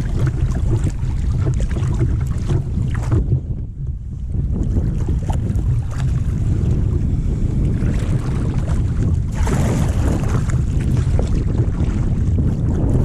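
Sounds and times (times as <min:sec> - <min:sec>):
water lapping against a hull: 0:00.0 - 0:13.0
wind buffeting microphone: 0:00.0 - 0:13.0.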